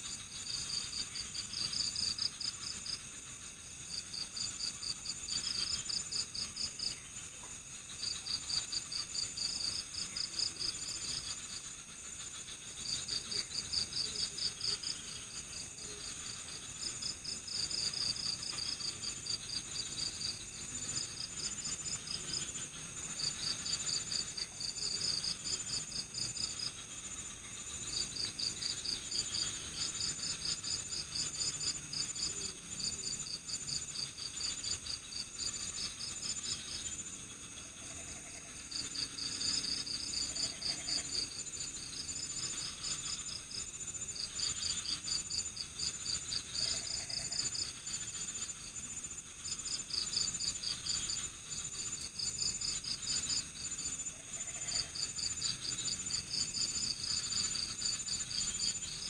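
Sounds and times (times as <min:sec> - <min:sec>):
cricket chirping in pulses: 0:00.0 - 0:59.0
high-pitched cricket trill: 0:00.0 - 0:59.0.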